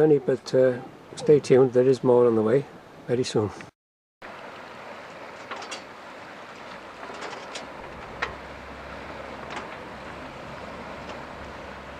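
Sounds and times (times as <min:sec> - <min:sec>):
sea and wind noise: 0:00.0 - 0:11.9.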